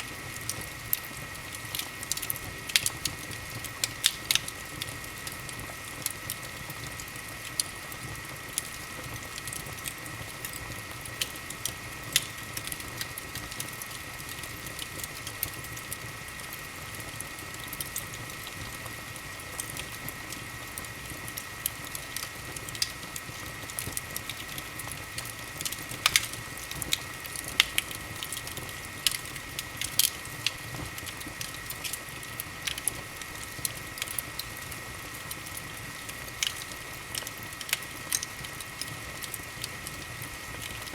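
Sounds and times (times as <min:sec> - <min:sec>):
steady fire hiss: 0:00.0 - 0:40.9
wood fire crackling and popping: 0:00.0 - 0:40.9.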